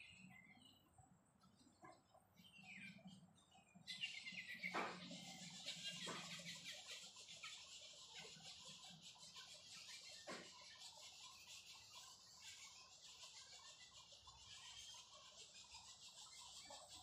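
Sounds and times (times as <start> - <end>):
flock of birds chattering: 0.0 - 17.0.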